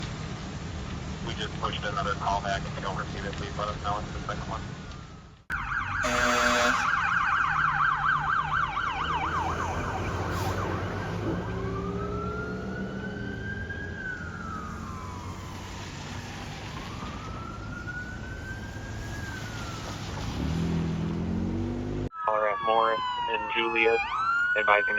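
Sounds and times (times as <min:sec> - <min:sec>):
fire engine siren: 0:01.1 - 0:24.9.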